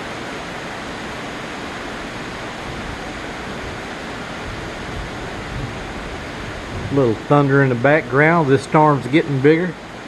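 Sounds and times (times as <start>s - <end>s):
rain on a metal roof: 0.0s - 10.0s.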